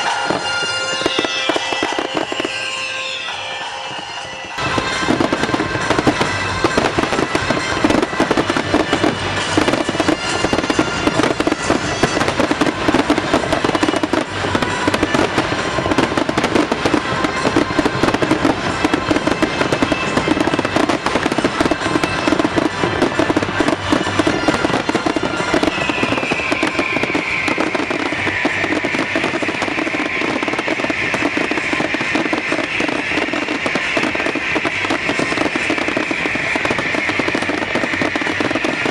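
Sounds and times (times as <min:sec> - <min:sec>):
fireworks crackling and popping: 0:00.0 - 0:38.9
high fireworks crackle: 0:00.0 - 0:38.9
music playing: 0:00.0 - 0:38.9.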